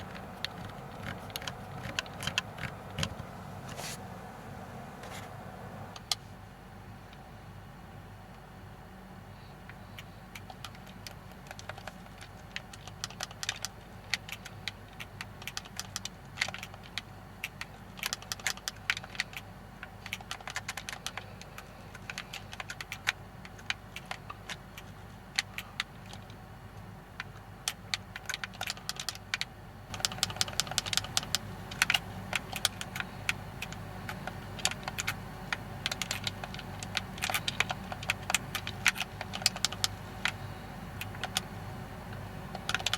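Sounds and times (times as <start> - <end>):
low steady hum: 0.0 - 15.0, 18.8 - 42.9.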